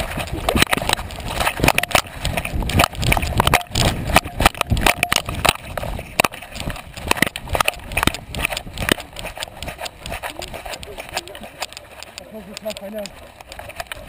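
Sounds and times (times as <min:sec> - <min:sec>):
camera housing knocking and rattling: 0:00.1 - 0:14.0.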